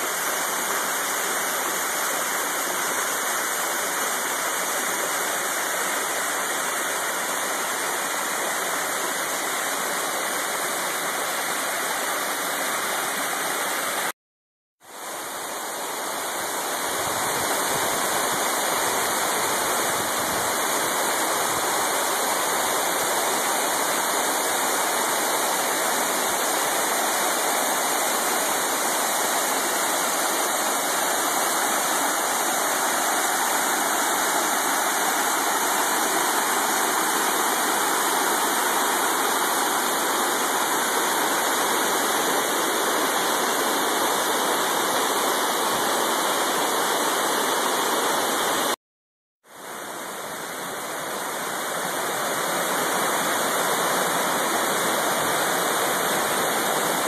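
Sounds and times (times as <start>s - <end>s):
waterfall rushing: 0.0s - 14.1s, 15.0s - 48.8s, 49.6s - 57.0s.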